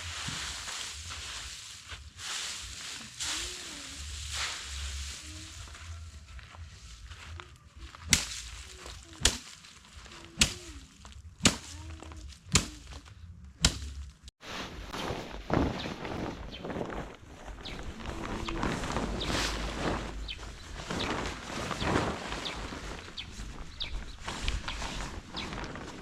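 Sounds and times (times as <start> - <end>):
low background rustling: 0.0 - 26.0.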